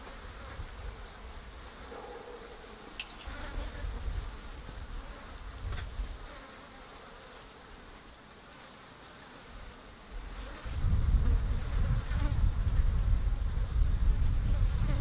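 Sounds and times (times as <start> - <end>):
flies buzzing: 0.0 - 15.0.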